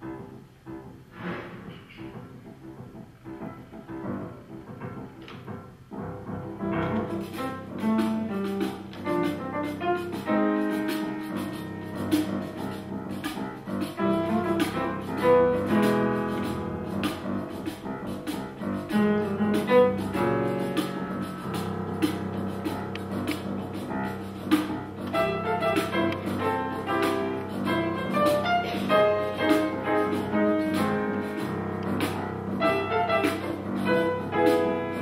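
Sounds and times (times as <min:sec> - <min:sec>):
jazz piano: 0:00.0 - 0:35.0.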